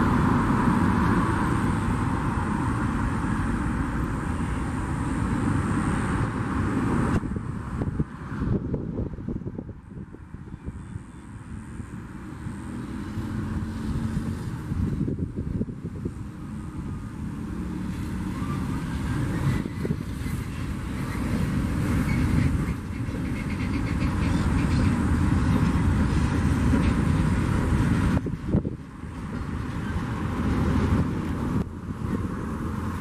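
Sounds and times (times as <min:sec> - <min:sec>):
freight train wheels rumbling on rails: 0:00.0 - 0:33.0.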